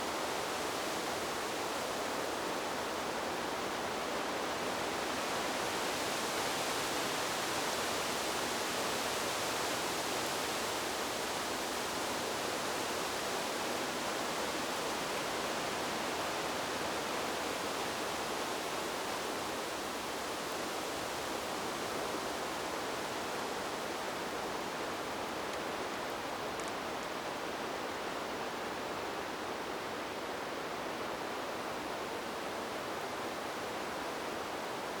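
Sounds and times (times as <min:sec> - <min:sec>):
wind through trees: 0:00.0 - 0:35.0.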